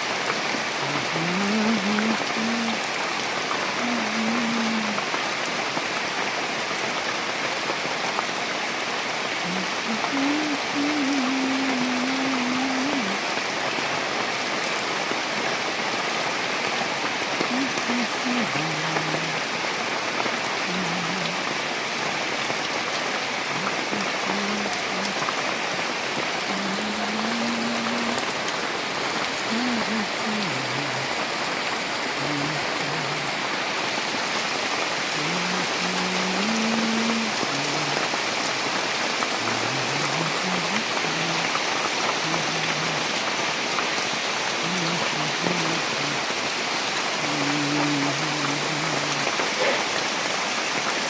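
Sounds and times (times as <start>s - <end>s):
rain falling: 0.0s - 51.0s.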